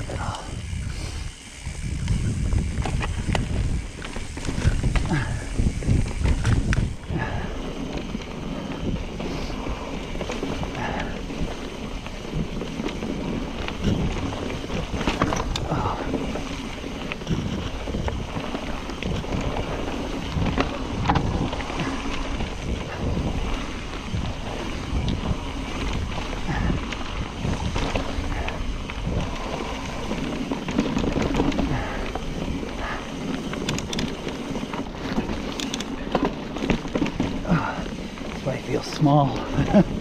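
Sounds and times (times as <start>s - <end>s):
bike clicks and knocks: 0.0s - 40.0s
bike tyre noise: 0.0s - 40.0s
wind rumble on microphone: 0.0s - 40.0s.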